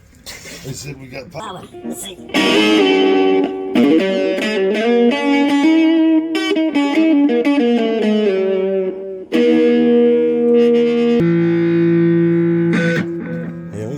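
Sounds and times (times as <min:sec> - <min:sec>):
electric guitar playing: 0:01.3 - 0:13.9.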